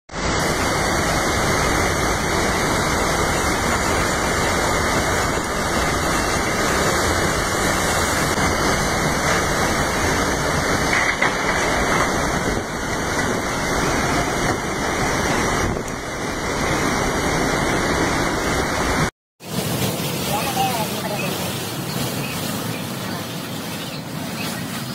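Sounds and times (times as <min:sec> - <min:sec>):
heavy rain: 0:00.1 - 0:24.9
wind: 0:00.1 - 0:24.9.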